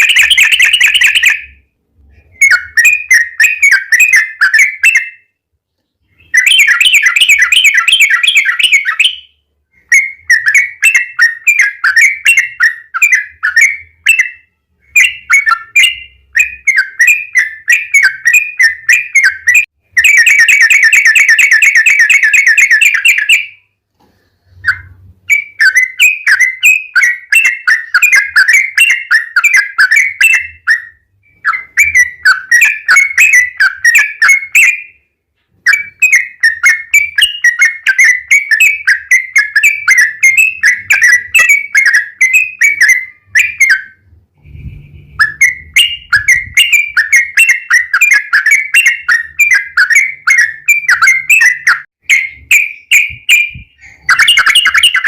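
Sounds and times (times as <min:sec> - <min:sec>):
bird singing chirpy notes: 0:00.0 - 0:23.7, 0:24.5 - 0:35.1, 0:35.7 - 0:55.0.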